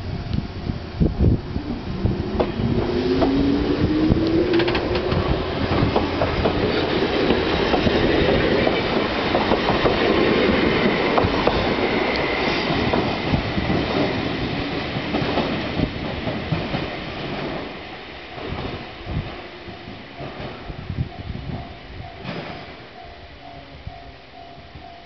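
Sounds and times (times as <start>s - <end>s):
electric train running past: 0.0s - 25.0s
train wheels clattering: 1.9s - 23.1s.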